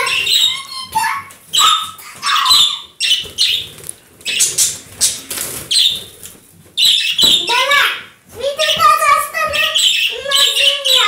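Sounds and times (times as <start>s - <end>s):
parrot squawking: 0.0s - 6.1s, 6.8s - 7.8s, 8.6s - 11.0s.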